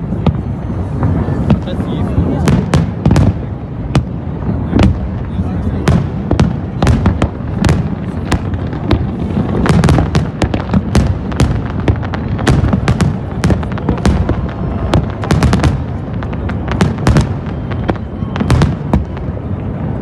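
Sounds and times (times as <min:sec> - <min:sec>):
fireworks cracks and bangs: 0:00.0 - 0:20.0.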